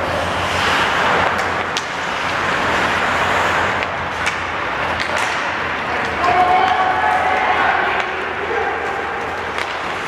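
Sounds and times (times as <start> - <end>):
skate and rink noise: 0.0 - 10.0
sticks and puck clacking: 0.0 - 10.0.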